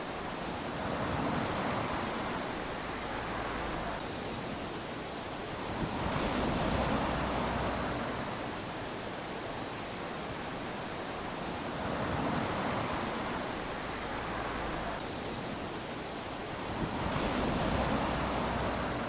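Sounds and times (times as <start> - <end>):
waves lapping on sand: 0.0 - 19.0.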